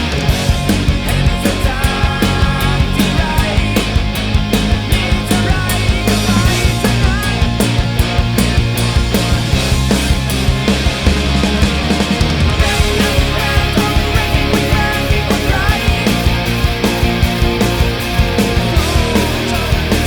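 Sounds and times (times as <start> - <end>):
instrumental rock backing track: 0.0 - 20.0
lead melody with sliding notes: 0.1 - 20.0.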